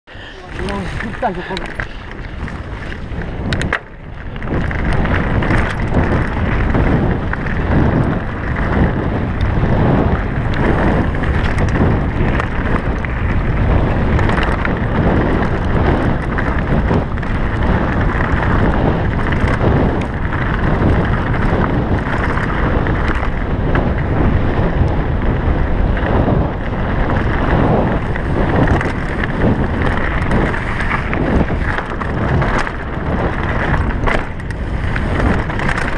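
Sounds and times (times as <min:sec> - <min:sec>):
wind buffeting microphone: 0:00.0 - 0:35.9
bike knocking and rattling: 0:00.1 - 0:35.9
tyres rumbling over dirt trail: 0:00.1 - 0:35.9.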